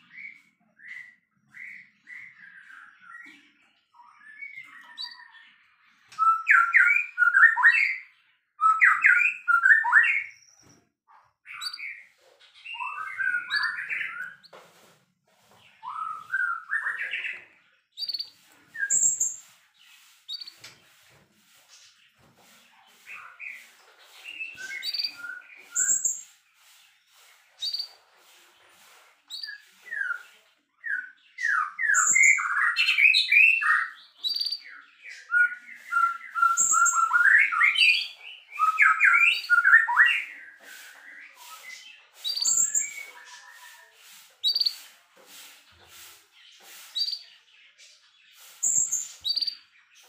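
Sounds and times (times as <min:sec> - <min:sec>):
bird song with whistled notes: 0:00.0 - 0:14.5, 0:15.4 - 0:20.9, 0:23.0 - 0:28.4, 0:29.3 - 0:44.9, 0:45.9 - 0:50.0.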